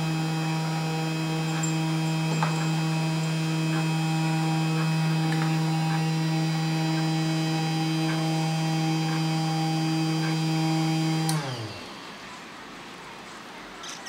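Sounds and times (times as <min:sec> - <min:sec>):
motor winding down: 0:00.0 - 0:11.9
milling machine spindle motor hum: 0:00.0 - 0:12.0.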